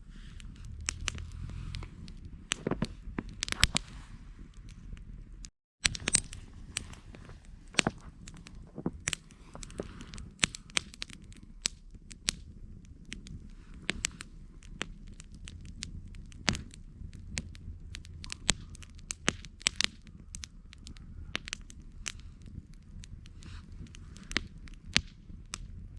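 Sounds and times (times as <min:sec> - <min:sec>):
campfire crackling and popping: 0:00.0 - 0:25.9
low steady rumble: 0:00.0 - 0:25.9.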